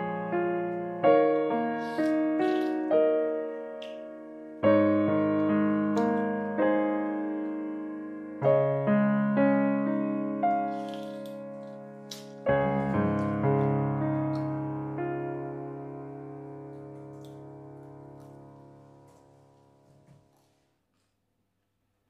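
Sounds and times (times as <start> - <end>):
solo piano music: 0.0 - 20.4.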